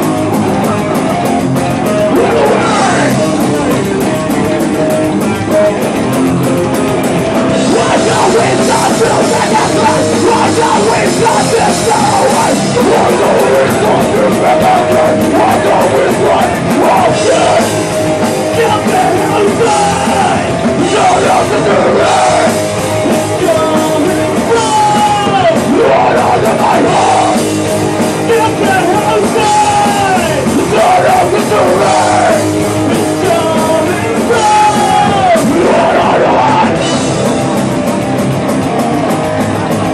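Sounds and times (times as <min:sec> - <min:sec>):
punk band playing live: 0:00.0 - 0:39.9.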